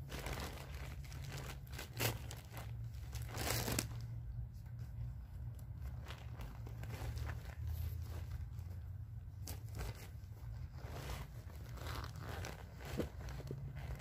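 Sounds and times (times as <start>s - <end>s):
plastic rustling and crinkling: 0.0s - 14.0s
steady low rumble: 0.0s - 14.0s.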